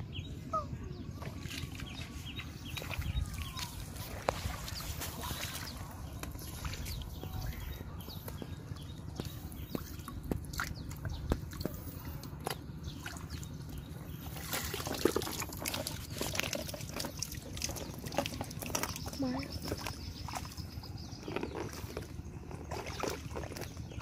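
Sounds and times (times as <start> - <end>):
muddy water sloshing and dripping: 1.1 - 24.0.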